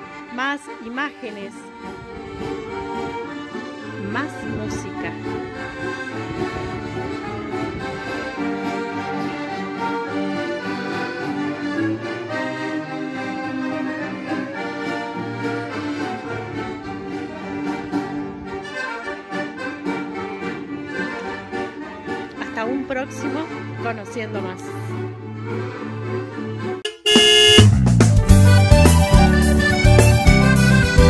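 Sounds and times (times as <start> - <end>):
accordions playing a tune: 0.0 - 31.0.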